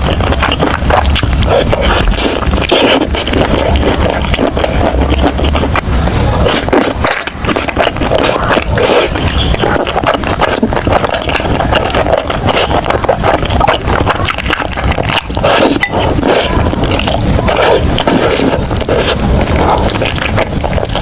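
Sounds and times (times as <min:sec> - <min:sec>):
crunchy chewing: 0:00.0 - 0:21.0
wet mouth noises: 0:00.0 - 0:21.0.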